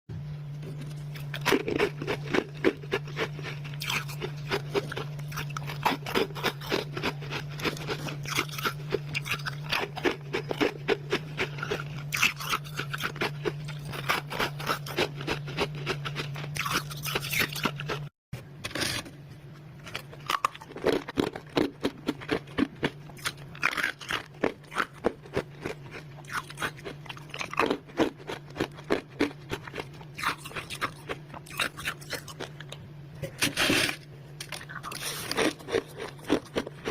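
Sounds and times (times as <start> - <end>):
steady low hum: 0.1 - 36.9
frost crunching being chewed: 0.6 - 18.1, 19.8 - 36.9.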